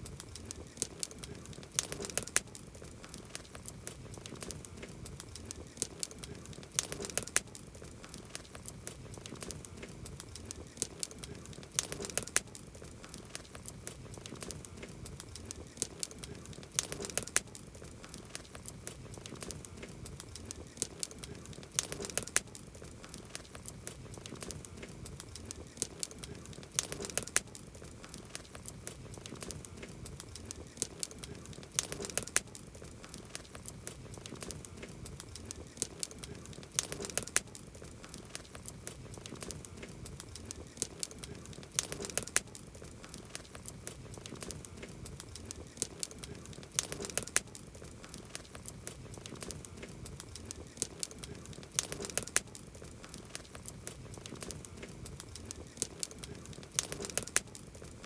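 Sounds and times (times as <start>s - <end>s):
campfire crackling: 0.0s - 58.0s
fire pops: 0.0s - 58.0s.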